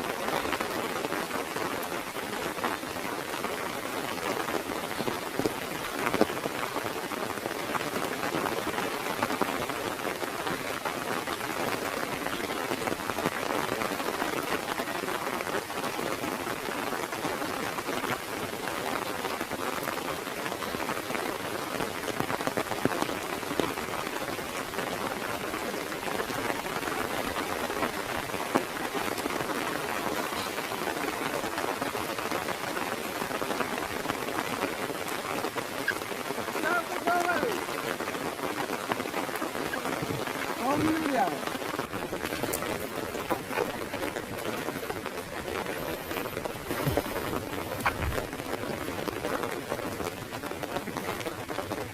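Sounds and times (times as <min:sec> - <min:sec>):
rain on an umbrella: 0:00.0 - 0:51.9.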